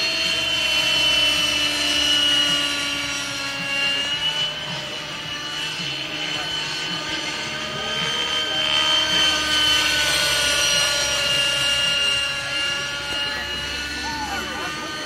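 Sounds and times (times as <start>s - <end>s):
model helicopter rotor whine: 0.0s - 15.0s.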